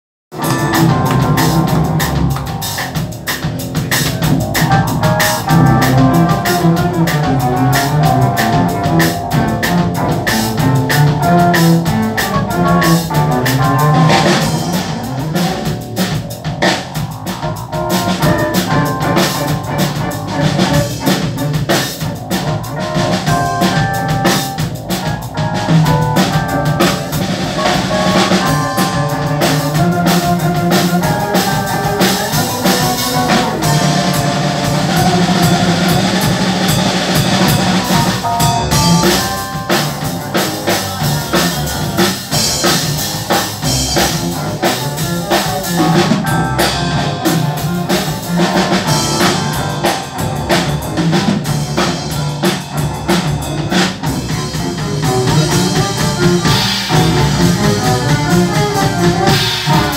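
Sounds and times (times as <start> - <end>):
drum kit: 0.3 - 59.9
keyboard: 0.3 - 59.9.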